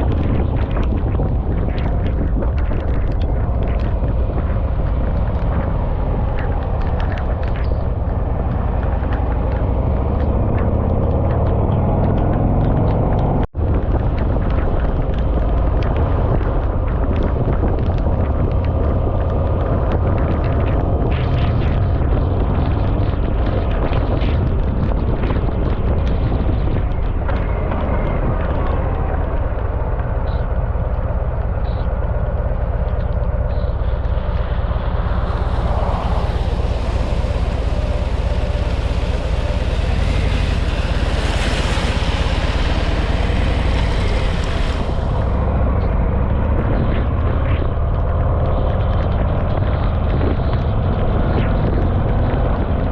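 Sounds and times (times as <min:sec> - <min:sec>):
motorcycle engine drone: 0:00.0 - 0:52.9
wind on microphone: 0:00.0 - 0:52.9.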